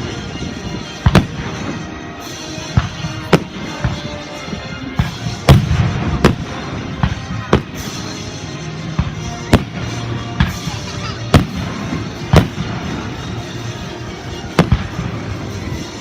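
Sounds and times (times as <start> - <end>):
fireworks bangs: 0.0 - 16.0
music playing: 0.0 - 16.0.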